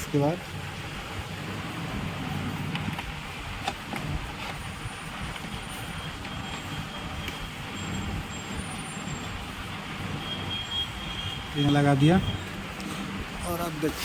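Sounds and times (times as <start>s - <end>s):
background rumble and hiss: 0.0s - 14.0s.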